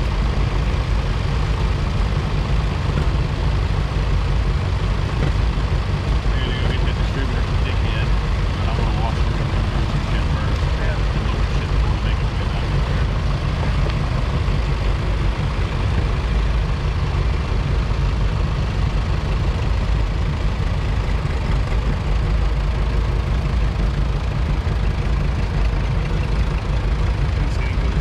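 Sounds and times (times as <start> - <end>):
tractor engines rumbling: 0.0 - 28.0.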